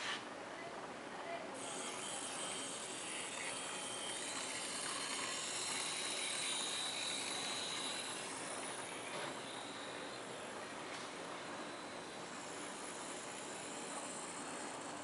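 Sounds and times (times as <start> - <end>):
high-pitched electric motor whine: 1.6 - 15.0.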